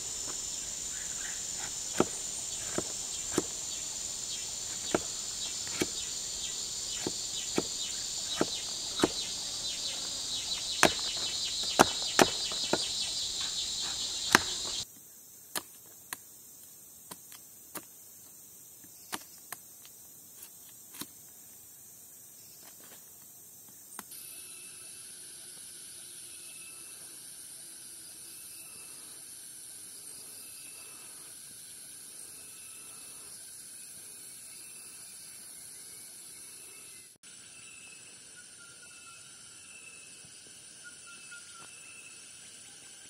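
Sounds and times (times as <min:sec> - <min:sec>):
high insect drone: 0:00.0 - 0:43.0
insect chorus: 0:00.0 - 0:43.0.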